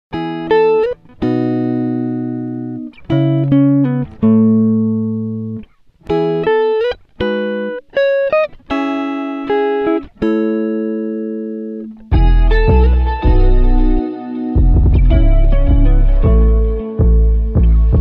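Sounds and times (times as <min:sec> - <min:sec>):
plucked string music: 0:00.1 - 0:18.0.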